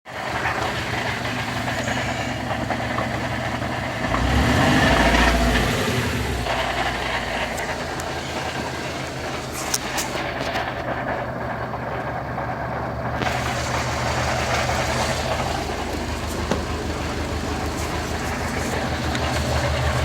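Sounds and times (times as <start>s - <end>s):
car running with mechanical noise: 0.0s - 20.0s
deep rumble: 0.2s - 20.0s.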